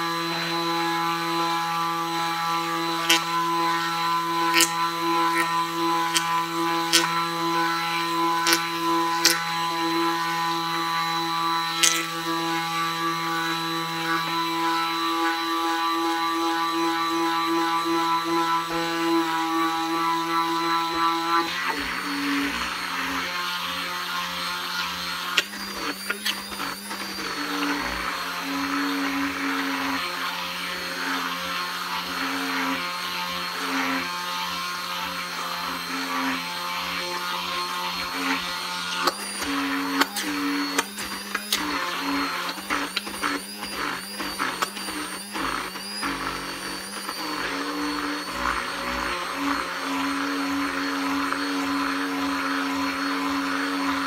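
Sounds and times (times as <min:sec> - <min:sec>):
immersion blender motor running: 0:00.0 - 0:54.0.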